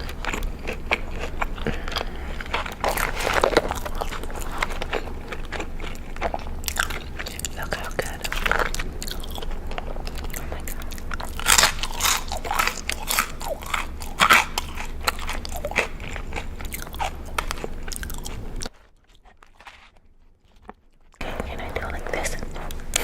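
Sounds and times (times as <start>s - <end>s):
crunchy chewing: 0.0s - 23.0s.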